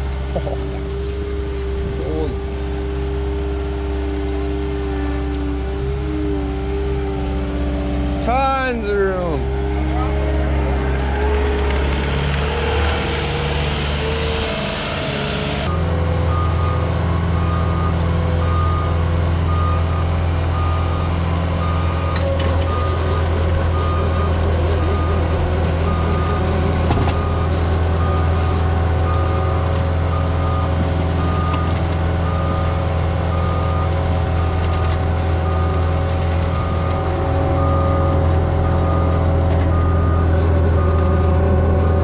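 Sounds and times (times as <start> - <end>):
diesel engine under load: 0.0 - 42.0
reversing alarm beeping: 0.0 - 42.0.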